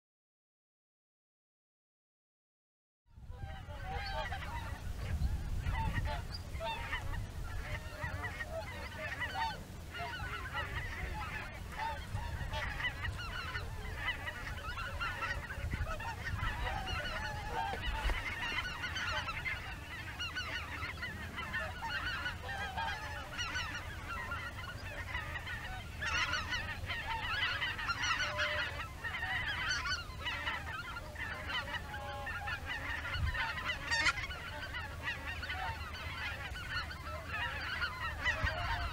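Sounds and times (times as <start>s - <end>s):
geese honking in flight: 3.3s - 38.9s.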